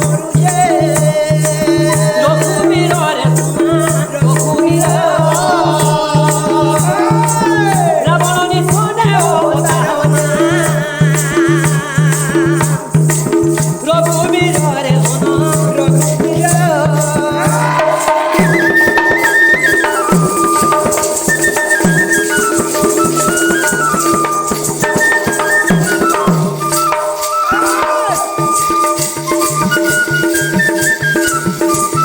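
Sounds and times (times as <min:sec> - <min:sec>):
rattling percussion beat: 0:00.0 - 0:32.0.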